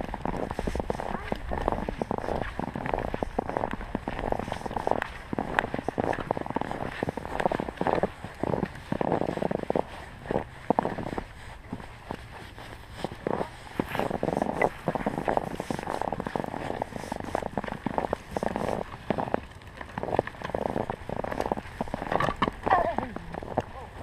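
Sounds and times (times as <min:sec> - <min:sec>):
snowboard scraping over snow: 0:00.0 - 0:19.4.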